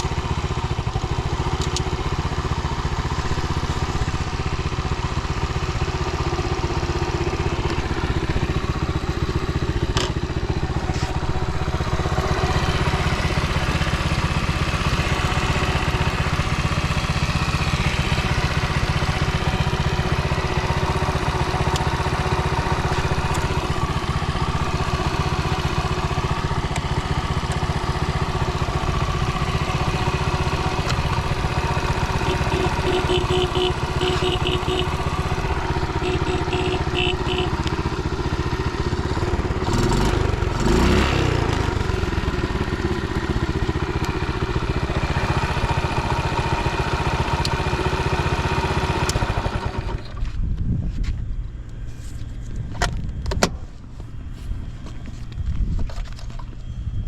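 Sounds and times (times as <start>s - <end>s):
motorcycle engine idling: 0.0s - 50.1s.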